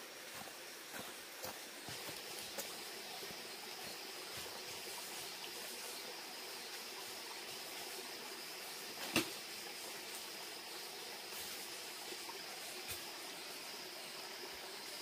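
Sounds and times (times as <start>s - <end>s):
background hiss: 0.0s - 15.0s
high insect drone: 0.0s - 15.0s.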